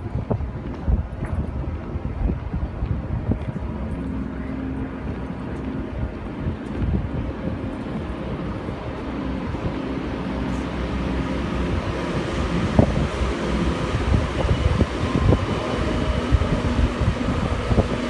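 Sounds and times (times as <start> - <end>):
engine running steadily: 0.0 - 18.0
low hum: 0.0 - 18.0
wind noise on microphone: 0.0 - 18.0.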